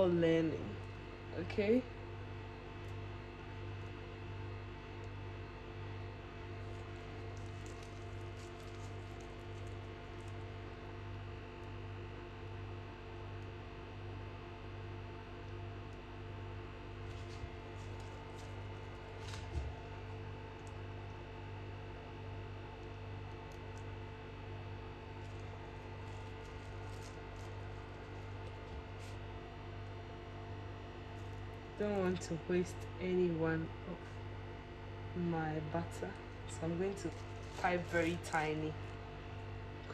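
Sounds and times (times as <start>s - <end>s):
kitchen appliance electrical hum: 0.0s - 39.9s.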